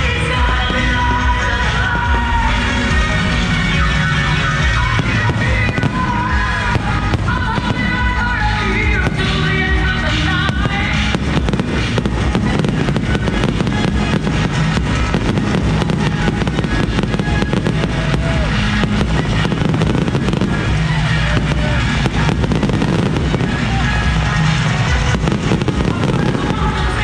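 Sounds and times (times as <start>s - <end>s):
fireworks bangs and crackles: 0.0s - 27.0s
loud music: 0.0s - 27.0s.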